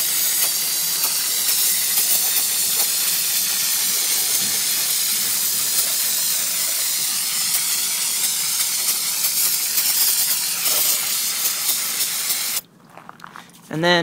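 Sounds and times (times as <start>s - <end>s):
aerosol spray hiss: 0.0s - 12.6s.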